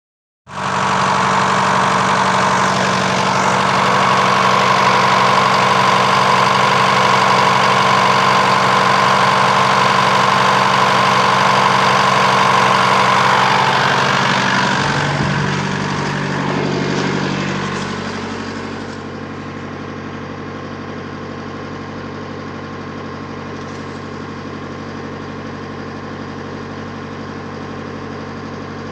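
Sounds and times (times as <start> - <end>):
diesel engine idling: 0.5 - 28.9.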